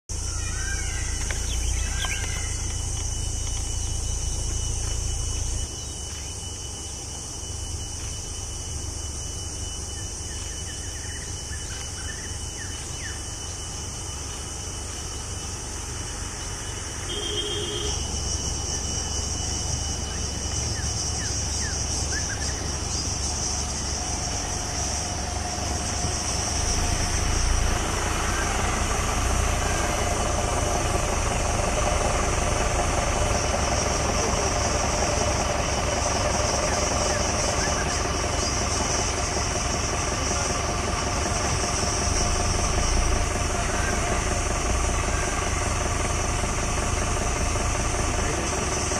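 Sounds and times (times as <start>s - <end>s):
high-pitched drone: 0.1s - 48.9s
motorcycle engine idling: 0.1s - 48.9s.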